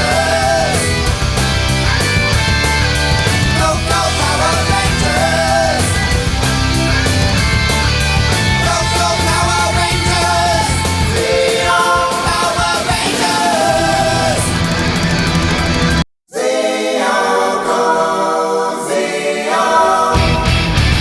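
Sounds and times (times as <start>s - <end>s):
rock music with singing: 0.0s - 16.0s, 19.8s - 21.0s.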